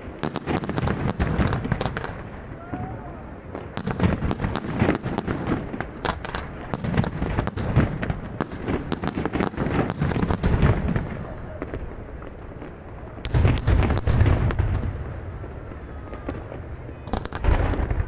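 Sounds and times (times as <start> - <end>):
fireworks bursts and crackling: 0.0 - 18.0.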